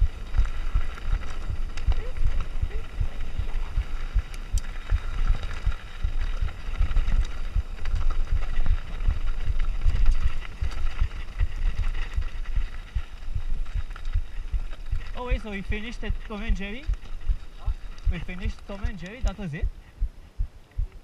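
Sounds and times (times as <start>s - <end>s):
bike tyre noise on dirt: 0.0s - 21.0s
wind buffeting microphone: 0.0s - 21.0s.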